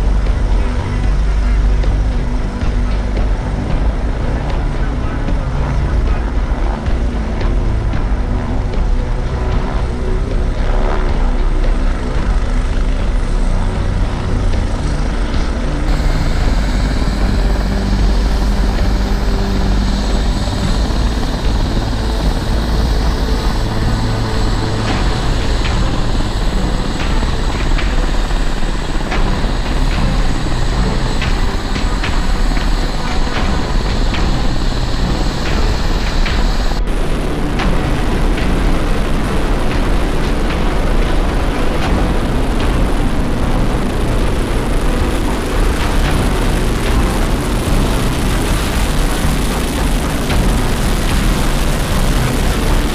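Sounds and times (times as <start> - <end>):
helicopter turbine and rotor: 0.0 - 52.9.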